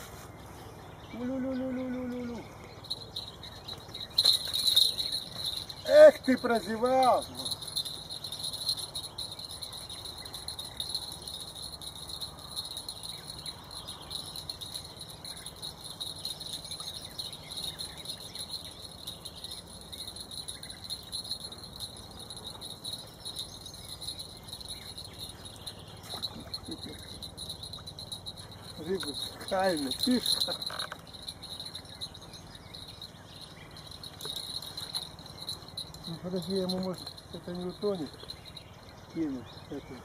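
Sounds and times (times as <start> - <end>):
insects chirring: 1.1 - 40.0.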